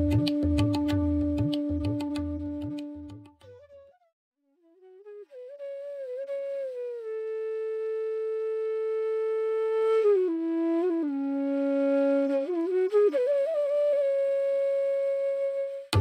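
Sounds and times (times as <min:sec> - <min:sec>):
solo flute melody: 0:00.0 - 0:16.0.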